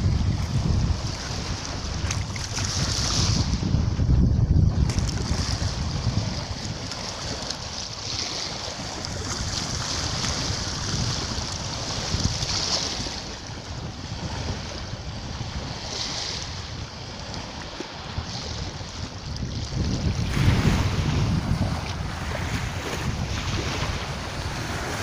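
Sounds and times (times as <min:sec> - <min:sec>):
small waves on sandy beach: 0:00.0 - 0:25.0
wind rumble on microphone: 0:00.0 - 0:25.0.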